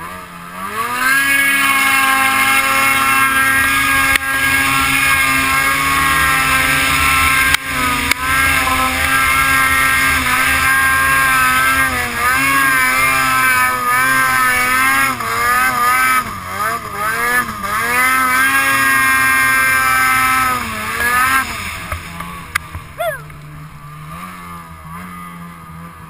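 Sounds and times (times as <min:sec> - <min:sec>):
snowmobile engine running hard: 0:00.0 - 0:26.0.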